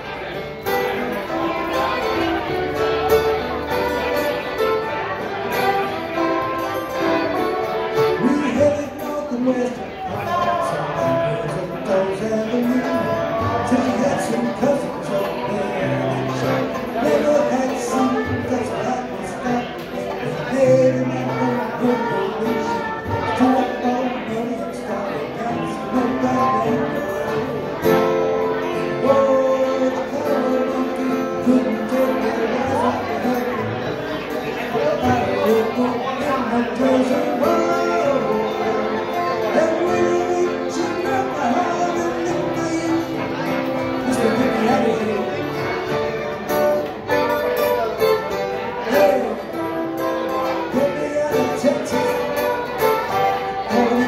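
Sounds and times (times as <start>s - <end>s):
acoustic bluegrass band playing: 0.0s - 54.0s
banjo: 0.0s - 54.0s
dobro: 0.0s - 54.0s
fiddle: 0.0s - 54.0s
guitar: 0.0s - 54.0s.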